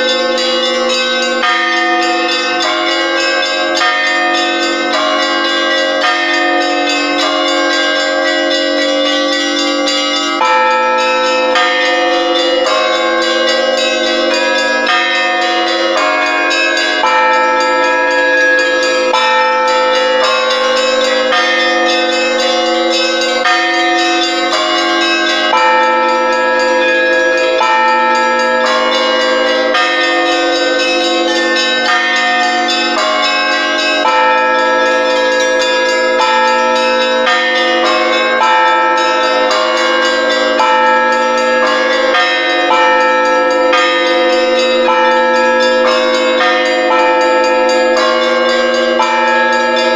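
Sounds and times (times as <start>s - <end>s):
large bells ringing: 0.0s - 49.9s
small church bells striking: 0.0s - 49.9s.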